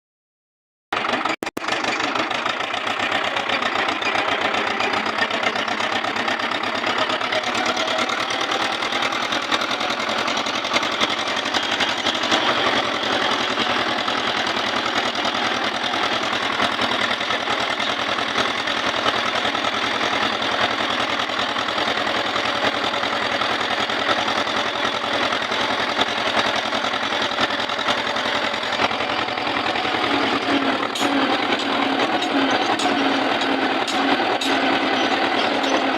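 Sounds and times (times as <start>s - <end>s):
tractor diesel engine running: 0.9s - 35.9s.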